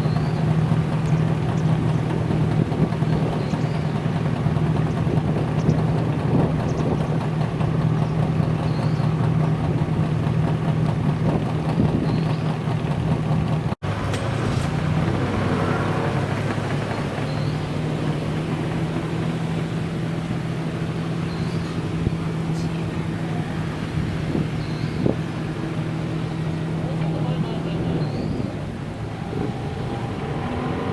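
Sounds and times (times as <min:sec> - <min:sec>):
car engines running: 0:00.0 - 0:30.9.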